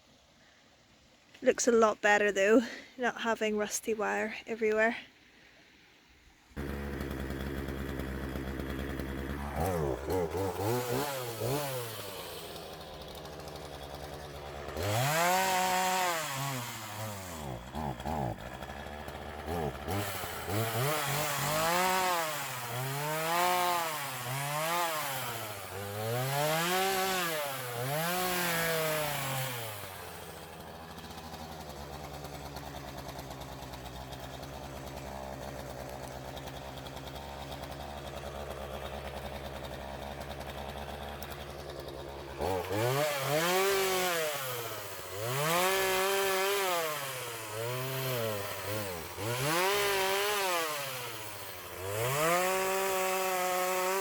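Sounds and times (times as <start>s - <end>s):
two-stroke power tool engine revving: 6.6s - 54.0s.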